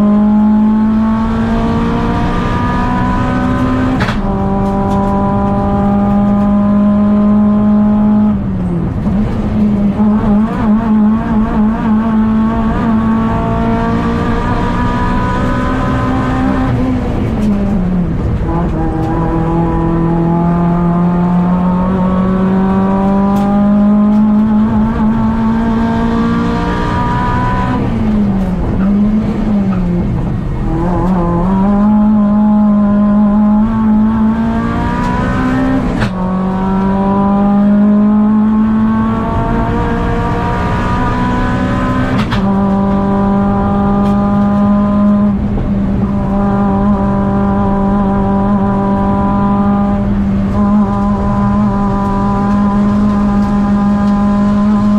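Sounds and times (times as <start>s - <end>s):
car engine revving in cabin: 0.0s - 54.9s.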